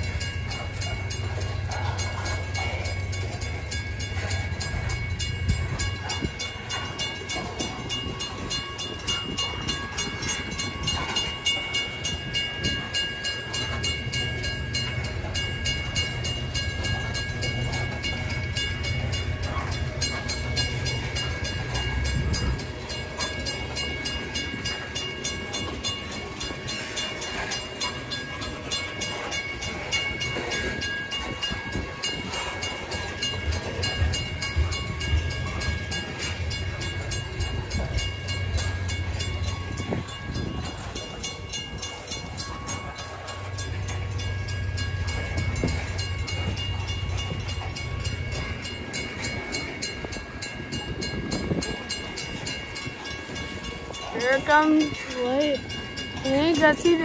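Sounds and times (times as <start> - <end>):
freight train rumbling past: 0.0 - 57.0
high ringing tones: 0.0 - 57.0.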